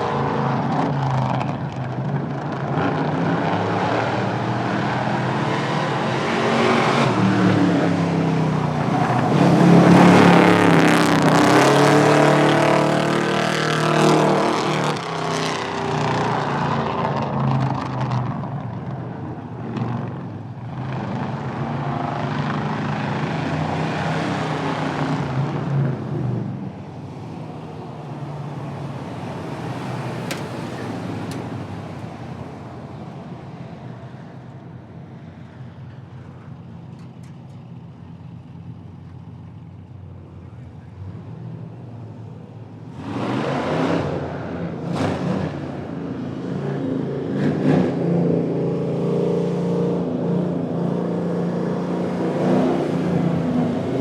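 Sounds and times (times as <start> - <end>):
car engine at full throttle: 0.0 - 54.0.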